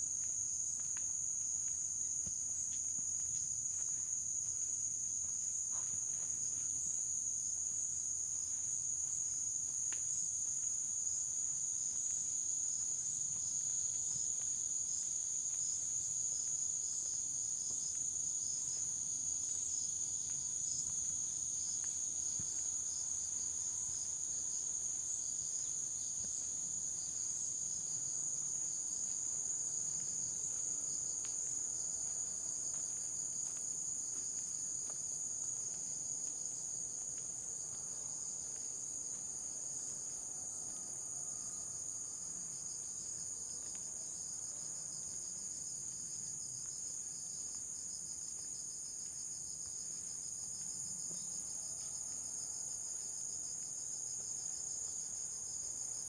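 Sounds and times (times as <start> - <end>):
faint footsteps: 0.0 - 41.0, 41.8 - 52.2
high-pitched insect chorus: 0.0 - 56.0.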